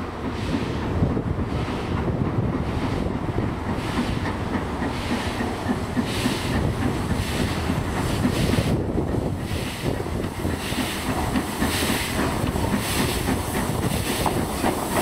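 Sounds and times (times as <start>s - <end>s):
wind noise on microphone: 0.0s - 4.6s, 5.6s - 15.0s
steam locomotive rumbling: 0.0s - 15.0s
steam hissing: 2.7s - 15.0s.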